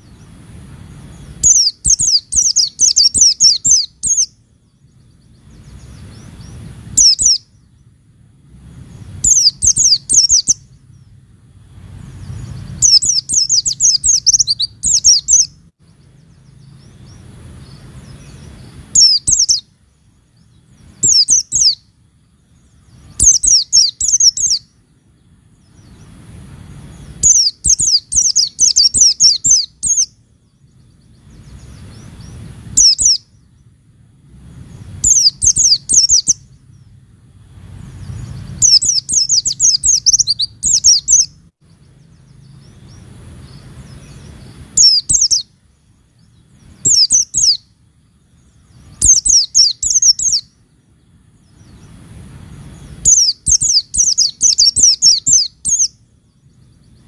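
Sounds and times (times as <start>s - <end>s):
bird twittering chirps: 0.0s - 57.0s.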